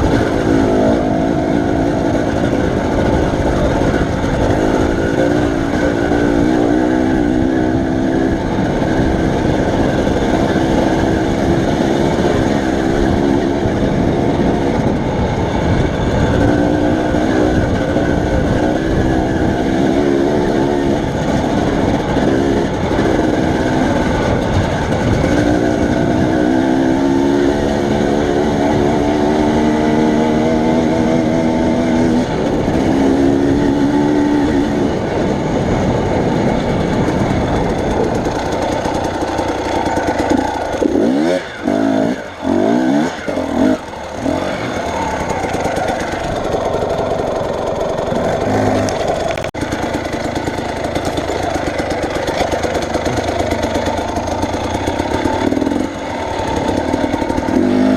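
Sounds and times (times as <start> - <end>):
vehicle engine changing gear: 0.0 - 57.9
wind and road noise: 0.0 - 57.9.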